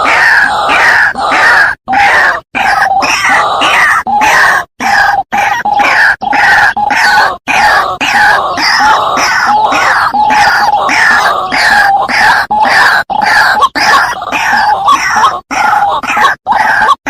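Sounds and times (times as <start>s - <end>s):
rapidly repeated bird calls: 0.0s - 17.0s.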